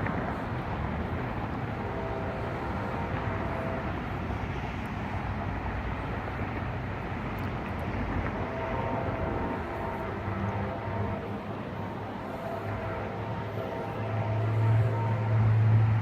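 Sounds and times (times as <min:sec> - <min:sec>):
diesel locomotive rumble: 0:00.0 - 0:16.0
faint whining tones: 0:00.0 - 0:16.0.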